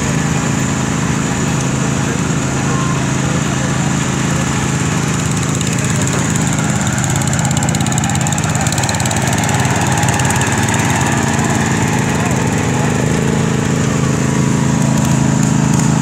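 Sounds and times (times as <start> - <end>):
garden tractor engines running: 0.0 - 16.0.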